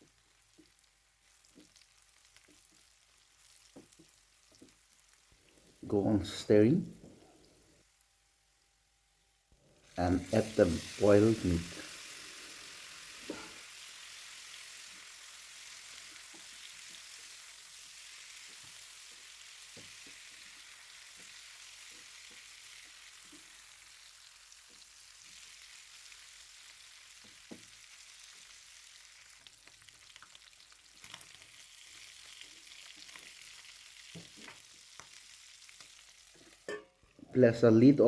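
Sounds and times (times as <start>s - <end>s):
meat sizzling in a frying pan: 0.0s - 5.9s, 9.8s - 36.7s.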